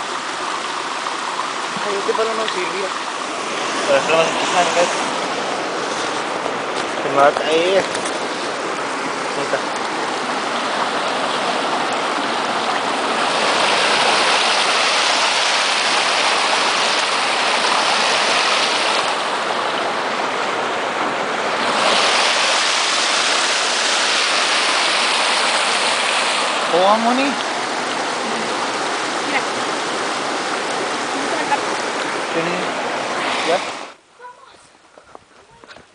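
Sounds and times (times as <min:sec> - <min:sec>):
river water rushing over rocks: 0:00.0 - 0:34.3.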